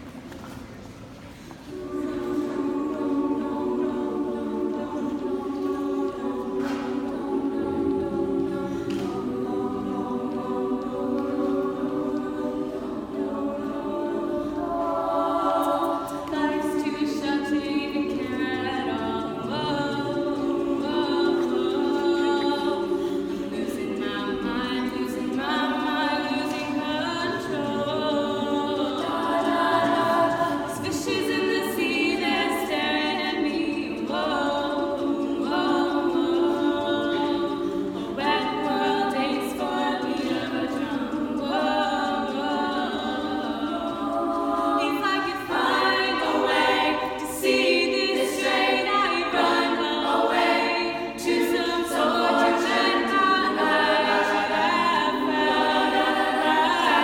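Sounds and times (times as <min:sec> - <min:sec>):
a cappella group singing: 0:01.3 - 0:57.0.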